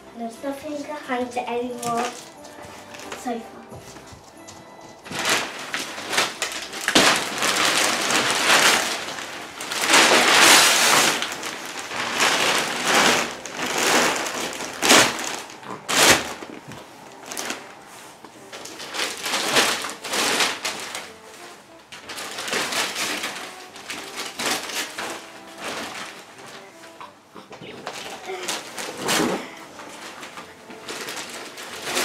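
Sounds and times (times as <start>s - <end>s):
wrapping paper ripping and crumpling: 0.4s - 27.1s, 27.7s - 32.0s.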